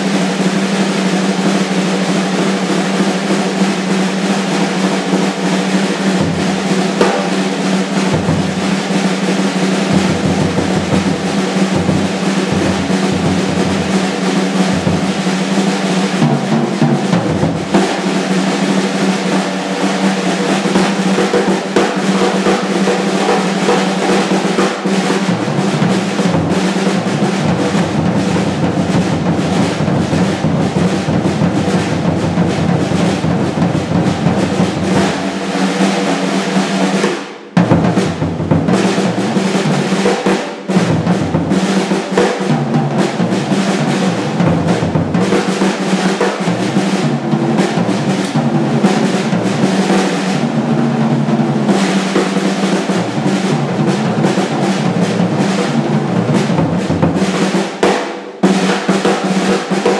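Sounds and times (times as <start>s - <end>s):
drum kit played fast: 0.0s - 59.9s.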